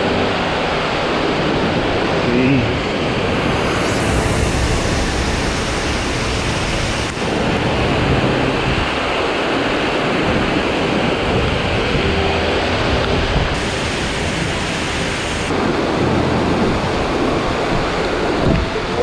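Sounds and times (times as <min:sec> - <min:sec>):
rushing storm wind and water: 0:00.0 - 0:19.0.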